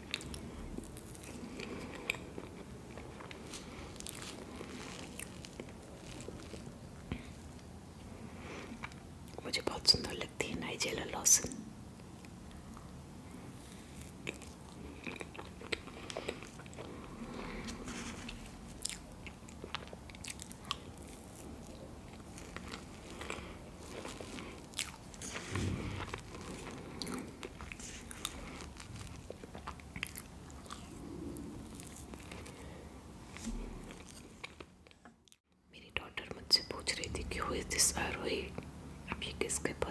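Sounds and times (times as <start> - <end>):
person chewing cake: 0.0 - 9.4, 12.0 - 35.4.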